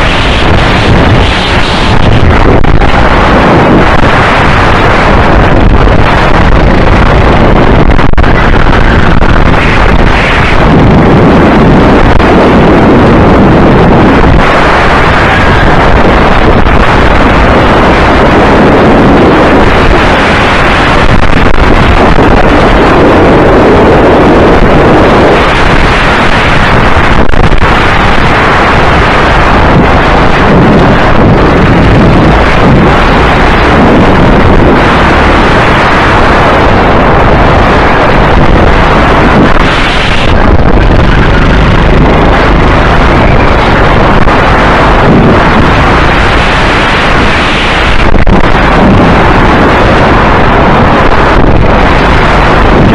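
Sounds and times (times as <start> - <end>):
go-kart engine racing: 0.0 - 52.9
wind buffeting microphone: 0.0 - 52.9.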